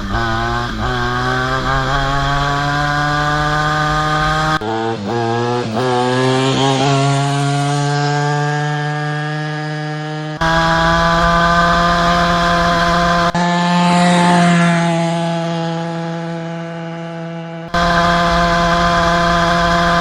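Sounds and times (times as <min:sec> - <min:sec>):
scooter engine buzzing at high revs: 0:00.0 - 0:20.0.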